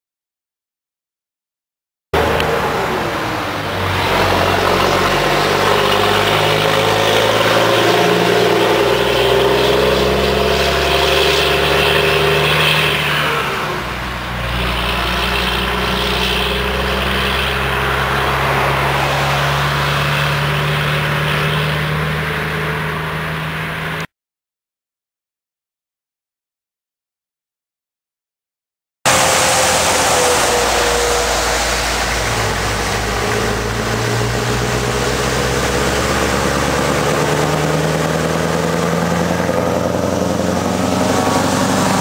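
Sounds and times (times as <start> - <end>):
truck accelerating through gears: 2.2 - 24.1, 29.1 - 42.0.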